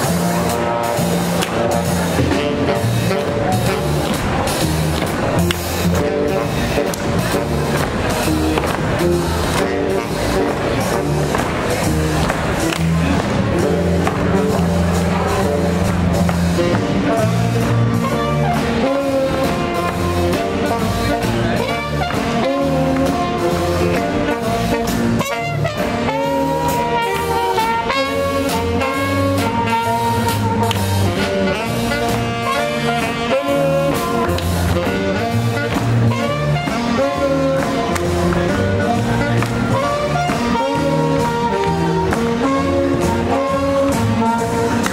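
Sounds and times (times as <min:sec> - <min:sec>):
brass: 0:00.0 - 0:44.9
swing jazz band playing: 0:00.0 - 0:44.9.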